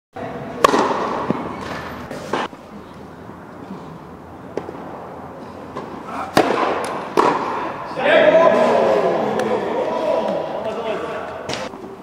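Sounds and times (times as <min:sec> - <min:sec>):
tennis balls hit by rackets: 0:00.3 - 0:11.9.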